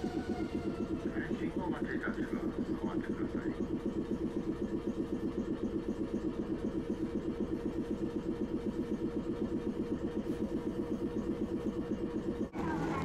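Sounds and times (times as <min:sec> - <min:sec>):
air compressor chugging: 0:00.0 - 0:13.0.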